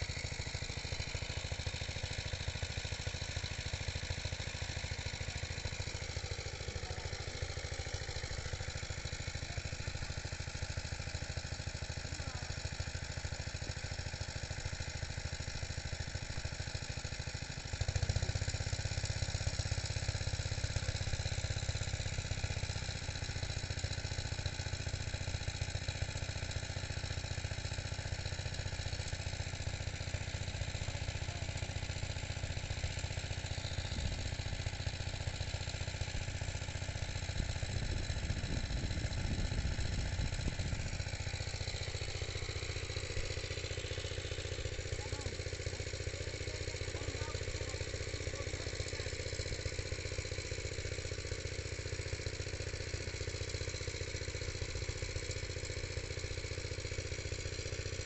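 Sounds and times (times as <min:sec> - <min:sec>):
small engine idling: 0:00.0 - 0:58.0.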